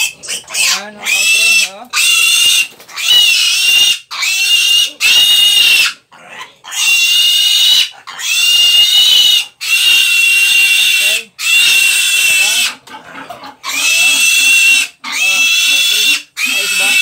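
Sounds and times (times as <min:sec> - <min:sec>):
piglet squealing: 0:00.0 - 0:17.0.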